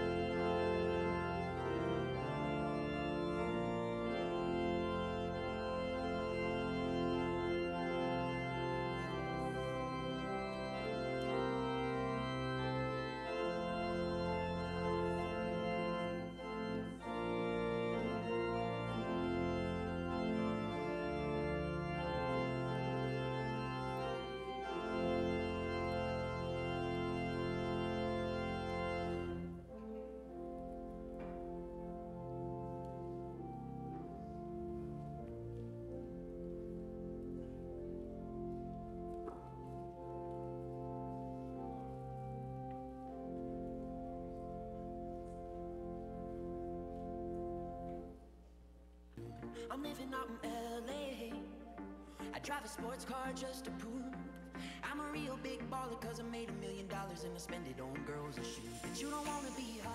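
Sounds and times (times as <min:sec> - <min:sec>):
church organ playing chords: 0:00.0 - 0:48.5, 0:49.2 - 0:59.9.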